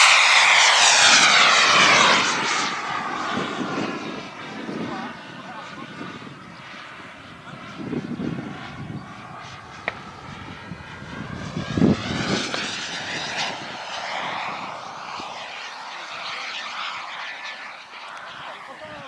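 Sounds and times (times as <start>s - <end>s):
model jet turbine whine: 0.0s - 19.0s.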